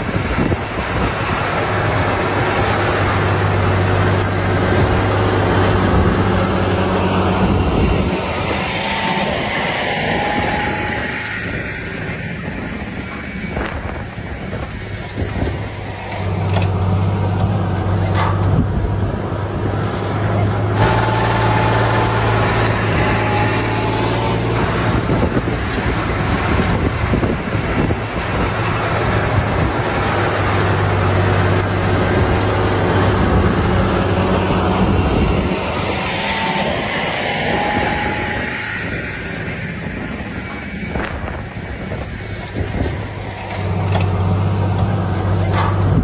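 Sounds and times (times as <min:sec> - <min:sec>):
tractor diesel engine droning: 0:00.0 - 0:46.0.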